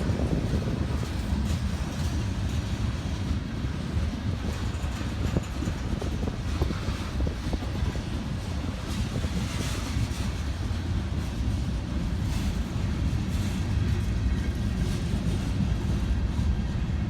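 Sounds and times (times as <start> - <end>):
freight train rumbling: 0.0 - 17.0
wheels clicking on rails: 0.0 - 17.0.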